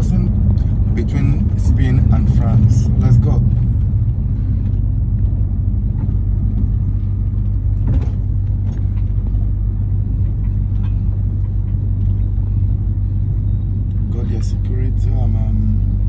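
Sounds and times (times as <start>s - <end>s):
truck engine and road drone: 0.0s - 16.0s.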